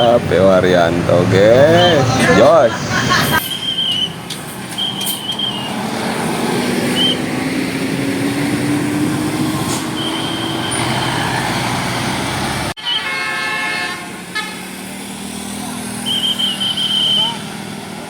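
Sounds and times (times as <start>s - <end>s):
heavy vehicle engine accelerating: 0.0s - 12.8s, 14.1s - 18.0s
tyres and traffic rushing: 0.0s - 18.0s.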